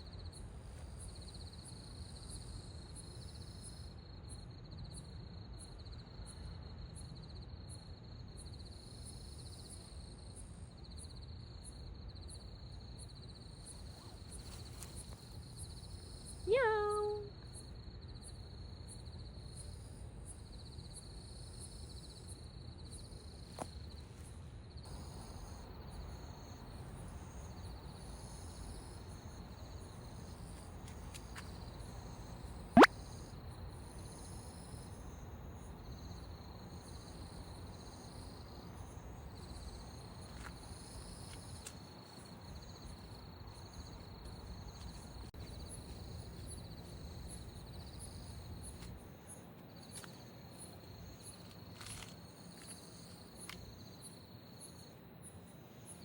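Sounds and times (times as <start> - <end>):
insects chirping in trills: 0.0 - 56.0.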